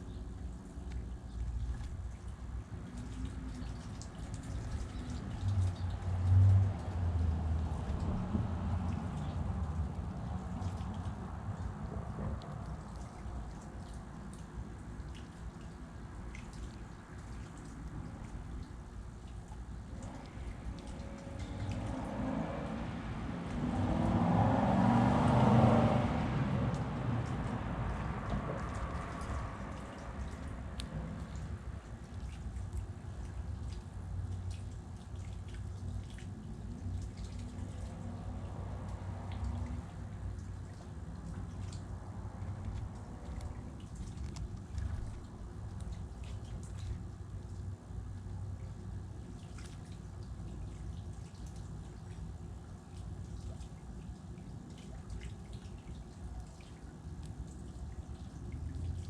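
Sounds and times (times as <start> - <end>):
steady low rumble: 0.0 - 51.3.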